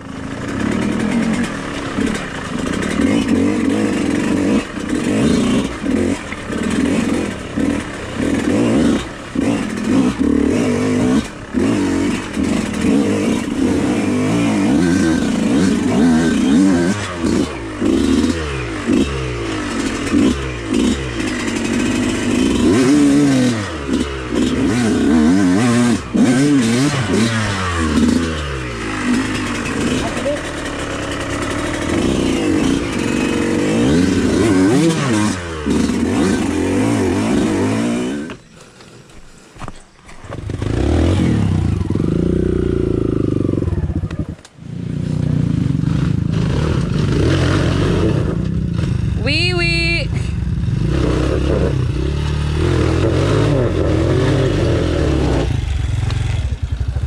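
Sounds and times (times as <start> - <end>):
dirt bike engine revving: 0.0 - 38.6, 40.0 - 57.0.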